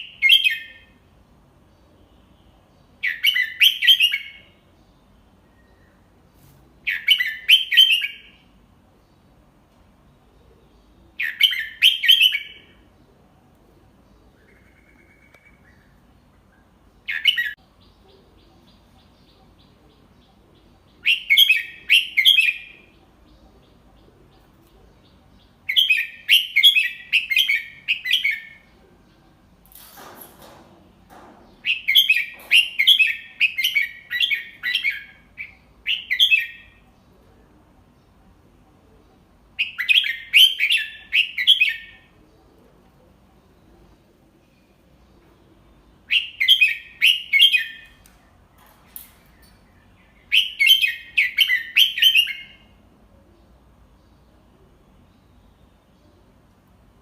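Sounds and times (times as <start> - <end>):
bird singing chirpy phrases: 0.0 - 29.6, 30.9 - 57.0.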